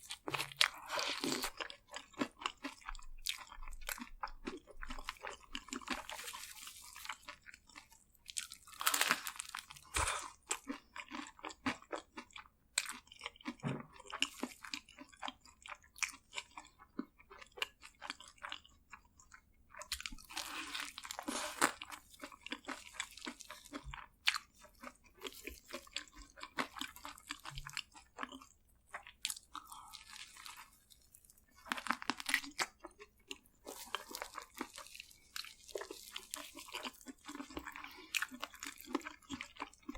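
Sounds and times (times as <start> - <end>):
crunching crispy food: 0.0 - 39.9
wet chewing: 0.0 - 39.9.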